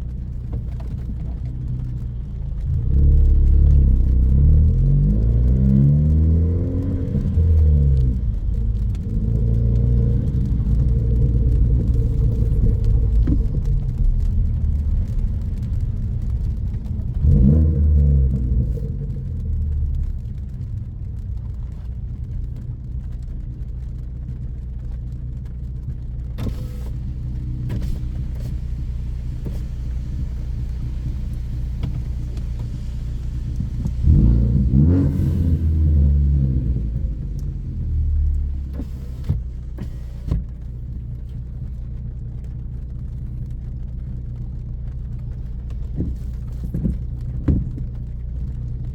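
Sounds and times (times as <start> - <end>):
car engine droning: 0.0 - 48.9.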